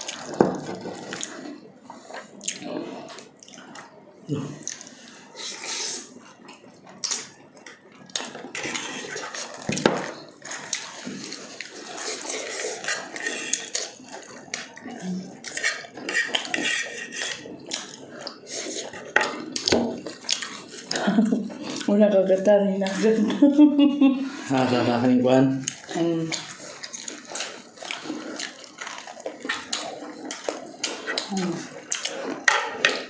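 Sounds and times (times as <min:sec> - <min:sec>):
crispy food being chewed: 0:00.0 - 0:23.4, 0:24.4 - 0:33.0.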